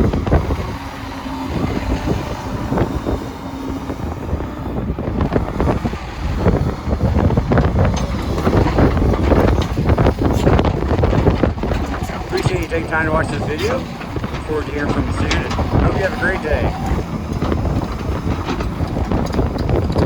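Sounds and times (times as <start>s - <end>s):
excavator running: 0.0s - 20.0s
wind buffeting microphone: 0.0s - 20.0s.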